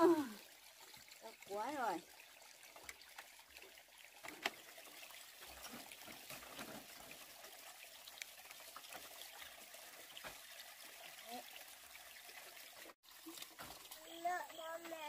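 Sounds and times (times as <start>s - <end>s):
faint trickling water: 0.0s - 15.0s.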